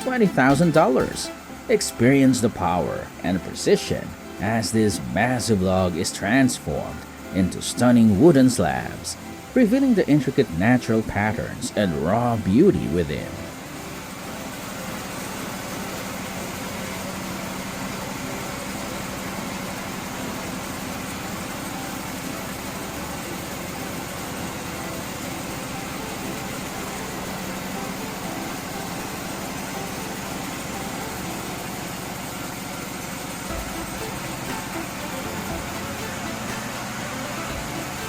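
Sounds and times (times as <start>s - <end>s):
sawmill engine and saw running: 0.0s - 38.0s.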